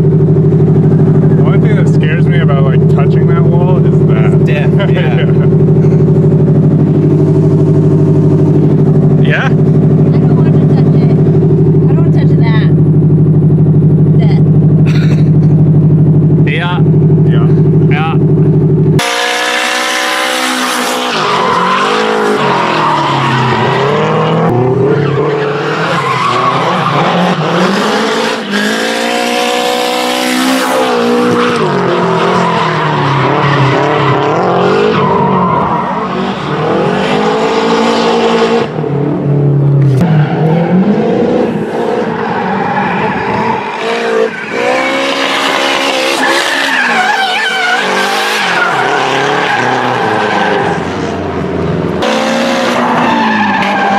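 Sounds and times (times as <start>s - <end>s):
car engine revving hard: 0.0s - 53.9s
tyres screeching: 0.6s - 38.4s, 41.9s - 53.9s.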